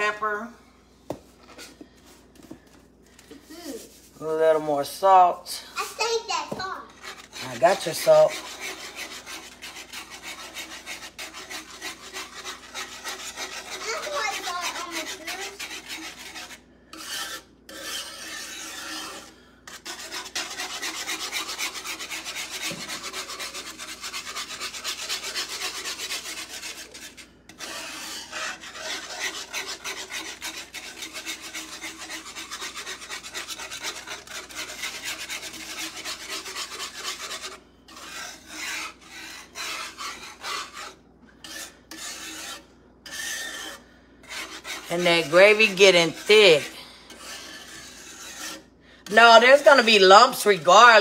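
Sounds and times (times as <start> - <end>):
whisk scraping a skillet: 0.0 - 0.4, 1.4 - 51.0.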